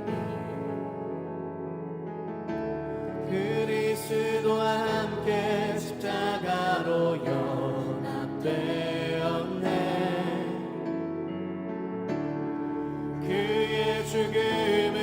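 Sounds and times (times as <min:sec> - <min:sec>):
voices singing worship melody: 0:00.0 - 0:01.4, 0:03.1 - 0:11.5, 0:12.7 - 0:15.0.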